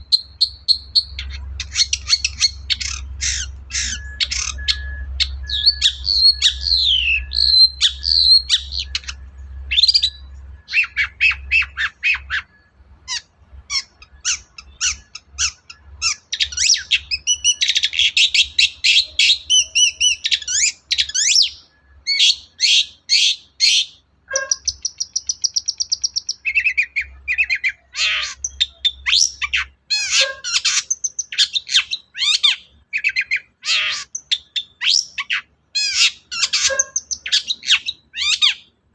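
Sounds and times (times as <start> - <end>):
shrike singing: 0.0 - 38.8.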